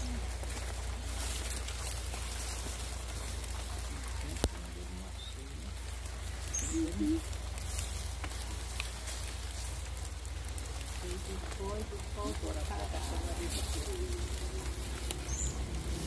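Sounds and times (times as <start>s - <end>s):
faint voices: 0.0s - 16.0s
footsteps on dry leaves: 0.0s - 16.0s
steady low rumble: 0.0s - 16.0s.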